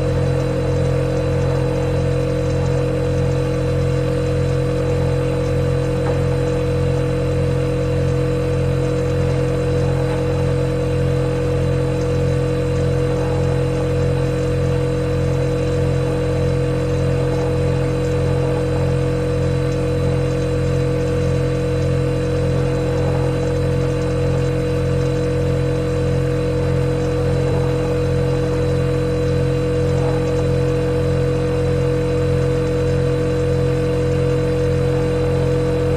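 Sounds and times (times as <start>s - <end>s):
refrigerator humming: 0.0s - 35.9s.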